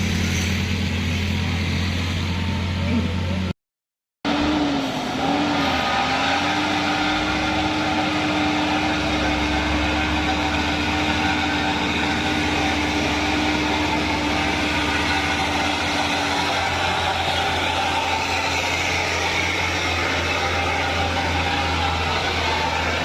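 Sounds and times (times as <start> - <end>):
truck diesel engine running: 0.0 - 3.5, 4.3 - 23.0.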